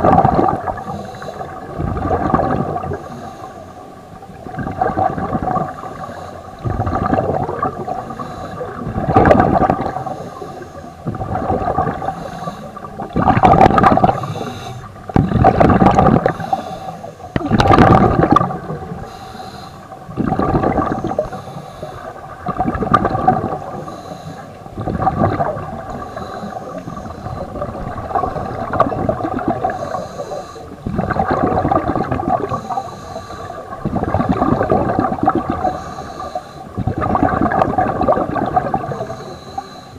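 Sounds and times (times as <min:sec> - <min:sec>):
underwater bubbles rushing out: 0:00.0 - 0:03.1, 0:04.1 - 0:10.2, 0:11.0 - 0:19.2, 0:19.8 - 0:39.2
steady hum: 0:00.0 - 0:39.9.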